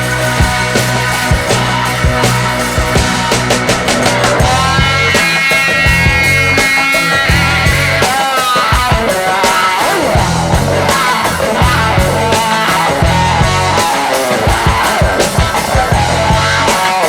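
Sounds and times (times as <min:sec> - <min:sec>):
distorted guitar-like tones: 0:00.0 - 0:17.0
music with pulsing beat: 0:00.0 - 0:17.0.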